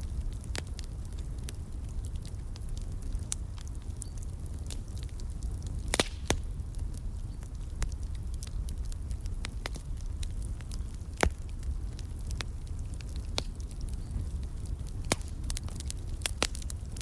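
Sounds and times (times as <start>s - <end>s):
low rumble of burning fire: 0.0s - 17.0s
wood fire crackling and popping: 0.0s - 17.0s.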